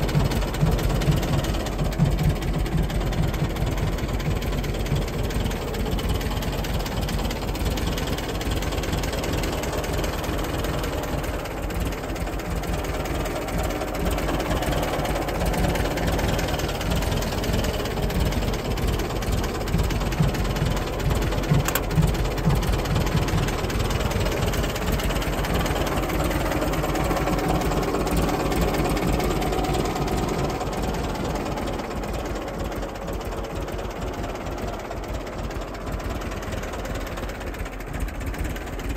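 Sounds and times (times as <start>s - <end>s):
aircraft tug engine idling: 0.0s - 38.9s.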